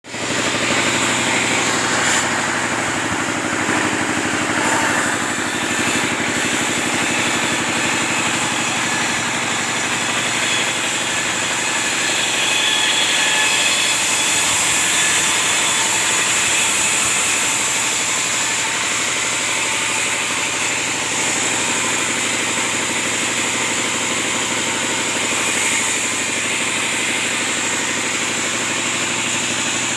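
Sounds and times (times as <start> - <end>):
sawmill machine whirring: 0.0 - 29.9.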